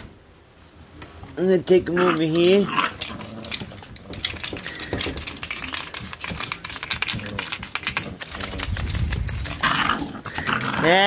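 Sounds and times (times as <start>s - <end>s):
puppies scratching on a mat: 1.8s - 11.0s.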